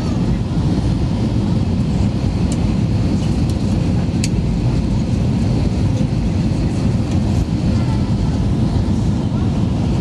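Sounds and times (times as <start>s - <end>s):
airplane engines rumbling in cabin: 0.0s - 10.0s.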